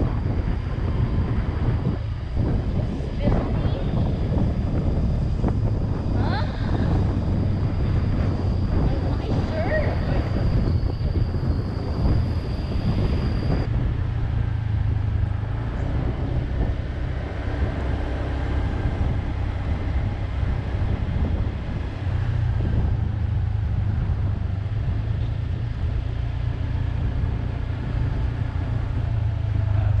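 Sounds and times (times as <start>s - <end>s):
road noise: 0.0s - 30.0s
vehicle engine rumble: 0.0s - 30.0s.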